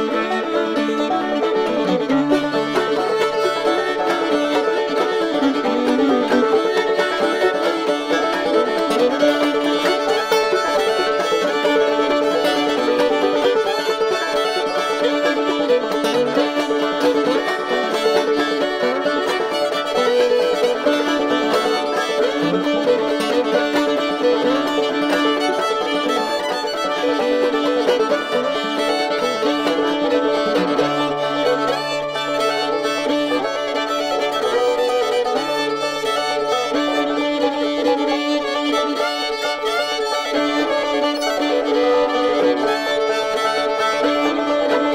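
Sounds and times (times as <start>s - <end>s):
fiddle and banjo tune: 0.0s - 44.9s.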